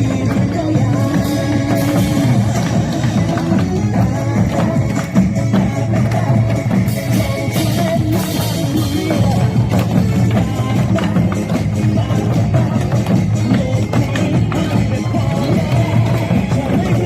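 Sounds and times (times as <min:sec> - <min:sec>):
drum kit beat: 0:00.0 - 0:17.0.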